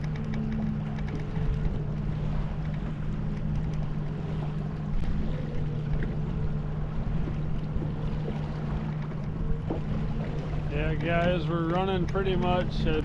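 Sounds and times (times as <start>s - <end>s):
boat motor humming: 0.0s - 13.0s
water noise: 0.0s - 13.0s
wind: 0.0s - 13.0s.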